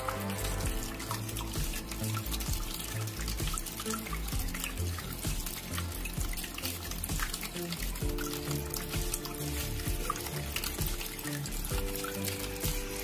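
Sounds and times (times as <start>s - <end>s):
background music: 0.0s - 13.0s
fountain water trickling: 0.0s - 13.0s.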